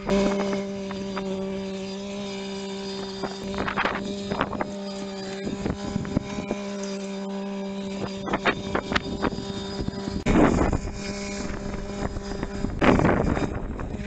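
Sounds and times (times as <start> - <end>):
tractor engine running: 0.0 - 14.0
wind buffeting microphone: 0.0 - 14.0.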